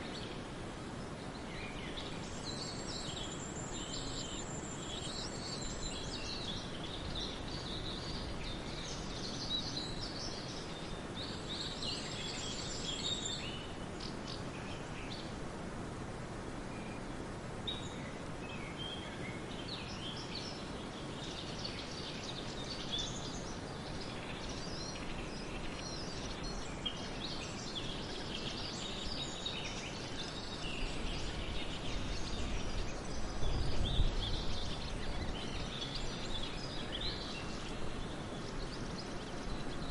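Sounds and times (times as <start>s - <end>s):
birds chirping and trilling: 1.2s - 15.4s, 16.7s - 39.9s.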